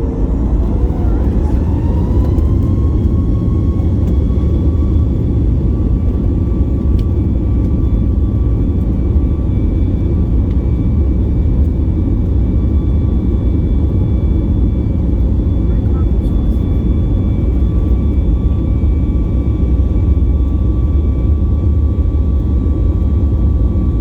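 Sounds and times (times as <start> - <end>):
high jet engine whine: 0.0 - 24.0
jet engine rumble in cabin: 0.0 - 24.0.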